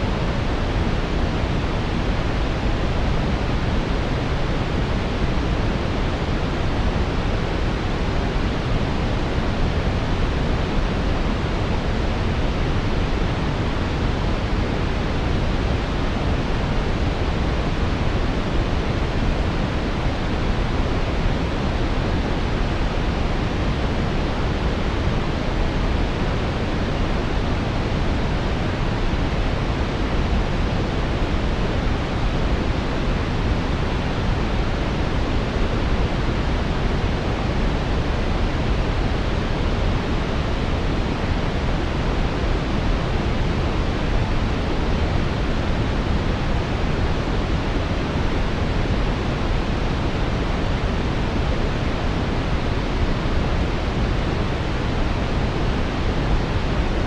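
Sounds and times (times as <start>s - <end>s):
deep rushing brown noise: 0.0s - 57.0s.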